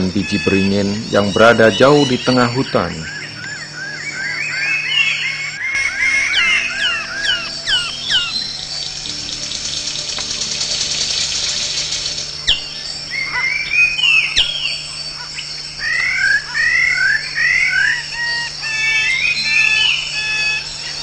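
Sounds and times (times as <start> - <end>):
buzzy bird trill: 0.0 - 21.0
high-pitched whine: 0.0 - 21.0
whistled bird notes: 0.0 - 21.0.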